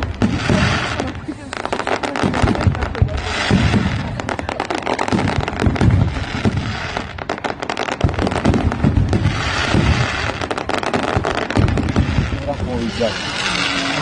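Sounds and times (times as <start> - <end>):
firecrackers bangs: 0.0 - 14.0.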